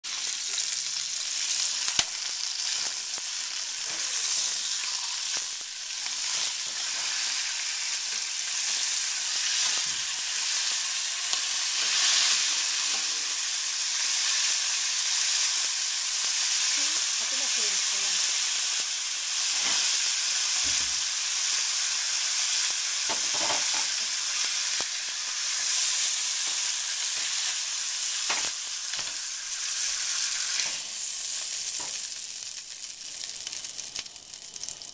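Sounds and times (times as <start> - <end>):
meat sizzling in hot oil: 0.0 - 34.9.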